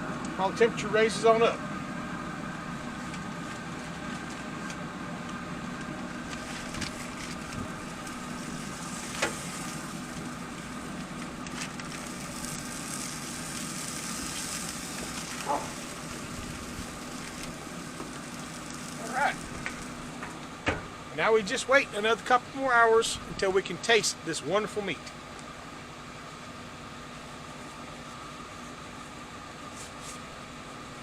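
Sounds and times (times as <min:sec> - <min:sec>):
smoker fan hum and hiss: 0:00.0 - 0:31.0.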